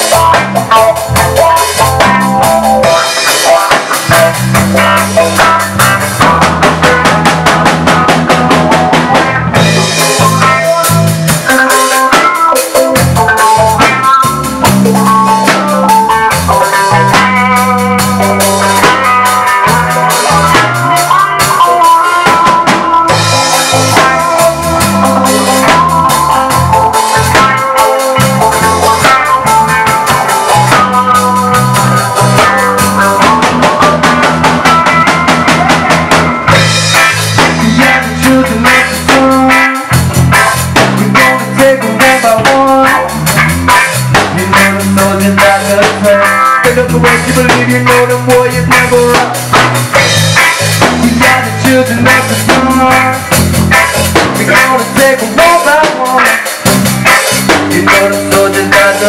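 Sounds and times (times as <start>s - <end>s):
low bass line: 0.0s - 11.7s, 12.7s - 59.0s
drum kit: 0.0s - 59.0s
electric guitar: 0.0s - 59.0s.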